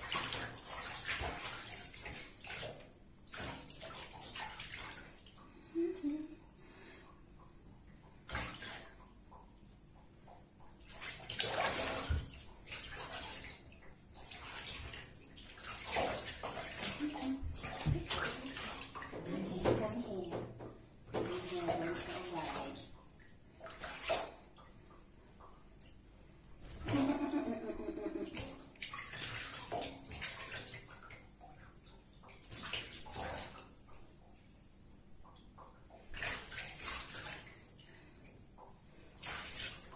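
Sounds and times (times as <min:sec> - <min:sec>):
water splashing in a bathtub: 0:00.0 - 0:39.9.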